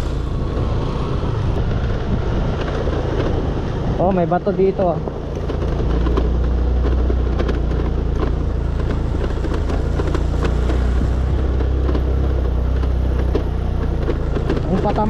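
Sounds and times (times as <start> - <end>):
scooter engine droning: 0.0 - 15.0
stones knocking under wheels: 2.4 - 15.0.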